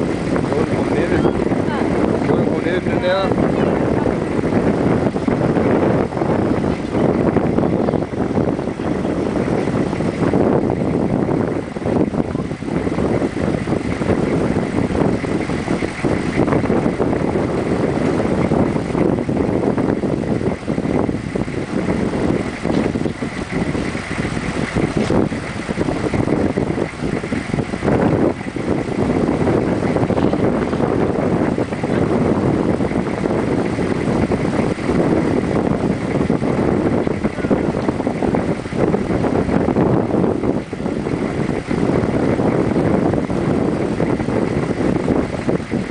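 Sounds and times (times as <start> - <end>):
vehicle engine running: 0.0 - 45.9
wind buffeting microphone: 0.0 - 45.9.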